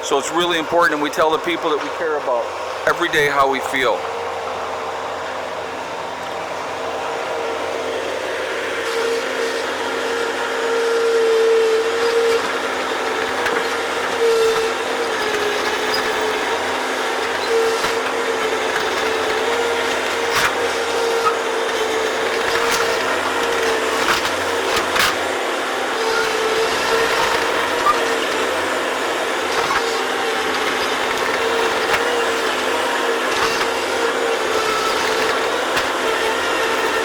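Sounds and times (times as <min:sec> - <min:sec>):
digging machine running: 0:00.0 - 0:37.0.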